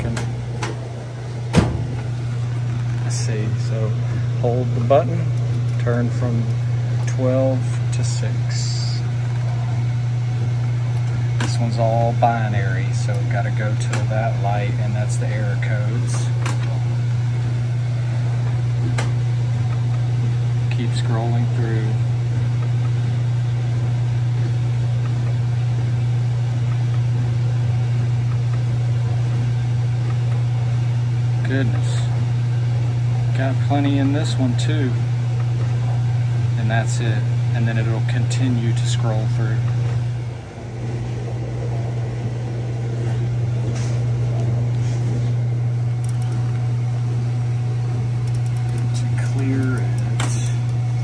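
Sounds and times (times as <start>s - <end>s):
machine humming: 0.0s - 51.0s.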